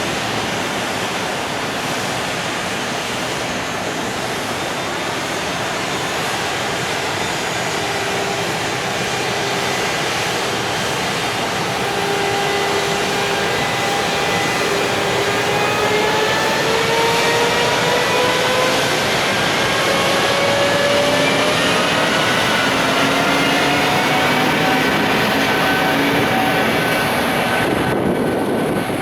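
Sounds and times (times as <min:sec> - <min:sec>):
train rushing noise: 0:00.0 - 0:29.0
locomotive motor whine: 0:05.6 - 0:29.0.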